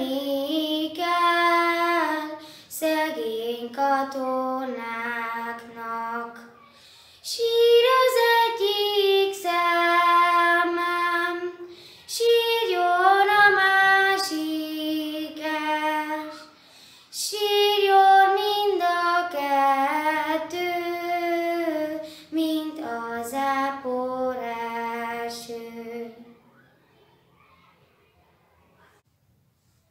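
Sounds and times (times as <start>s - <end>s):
girl singing unaccompanied: 0.0s - 26.4s.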